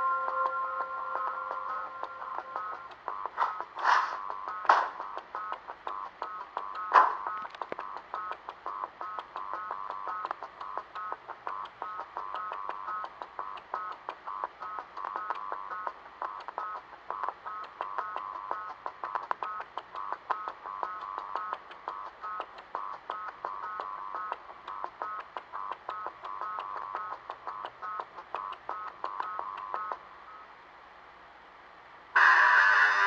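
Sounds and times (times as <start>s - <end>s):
rapid electronic beeps: 0.0s - 30.5s.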